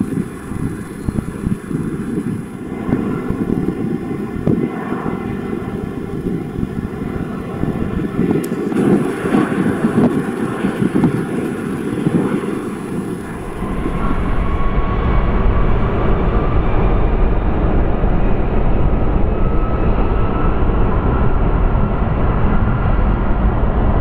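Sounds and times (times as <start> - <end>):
distant jet engines: 0.0 - 24.0
wind buffeting microphone: 0.0 - 24.0.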